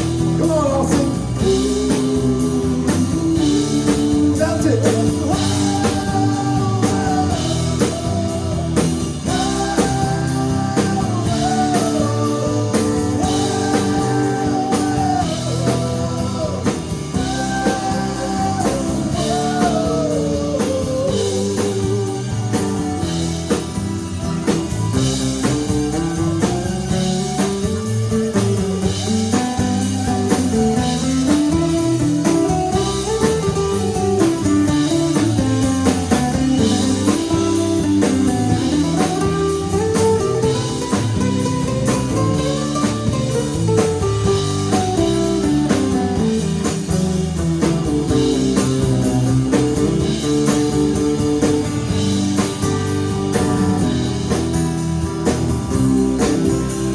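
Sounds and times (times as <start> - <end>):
bass guitar: 0.0 - 56.9
lead guitar line: 0.0 - 56.9
steady drums: 0.0 - 56.9.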